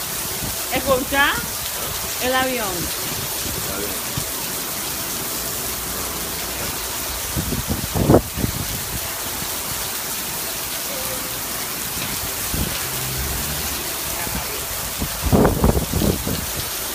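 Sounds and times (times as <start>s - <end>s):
heavy rain on pavement and cars: 0.0s - 16.9s.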